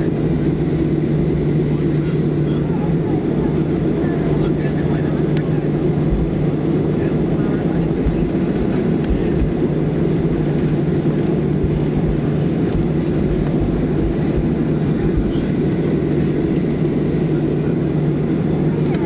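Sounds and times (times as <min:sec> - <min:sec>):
jet engines rumbling in cabin: 0:00.0 - 0:19.0.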